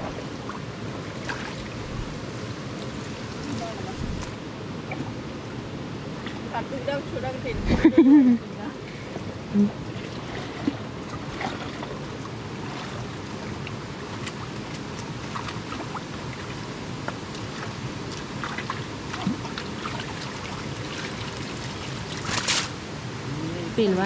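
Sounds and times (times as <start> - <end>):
small water splashes: 0.0 - 5.4, 6.1 - 6.7, 8.9 - 23.0
stream water flowing: 0.0 - 24.0.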